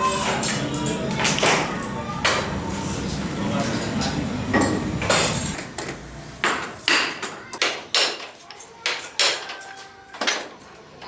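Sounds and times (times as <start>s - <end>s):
hard objects knocking and clinking: 0.4s - 11.0s.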